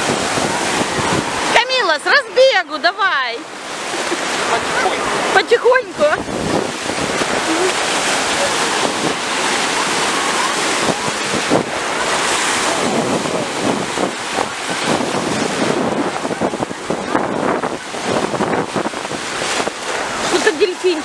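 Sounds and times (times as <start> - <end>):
sea surf breaking: 0.0 - 21.0
wind buffeting microphone: 0.0 - 21.0.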